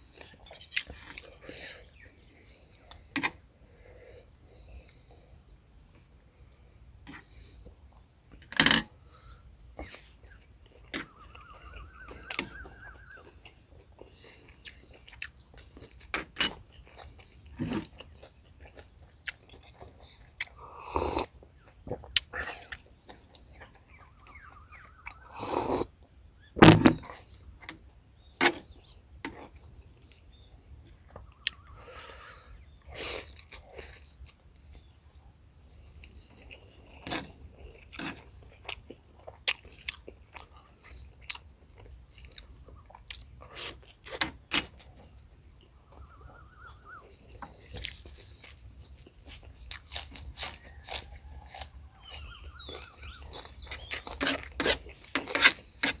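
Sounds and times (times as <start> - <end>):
high insect chirring: 8.9 - 56.0.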